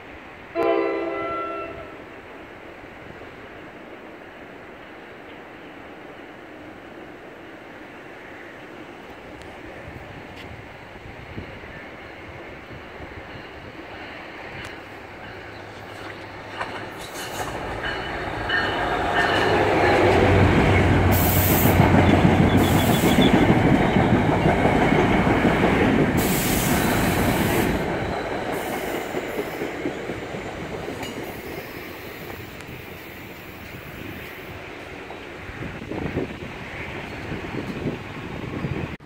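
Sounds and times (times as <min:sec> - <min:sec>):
train wheel and rail noise: 0:00.0 - 0:39.0
locomotive hum: 0:03.2 - 0:38.9.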